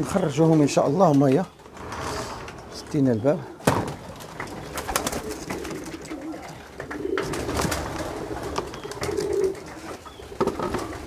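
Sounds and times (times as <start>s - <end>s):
pigeons cooing softly: 0.0s - 11.0s.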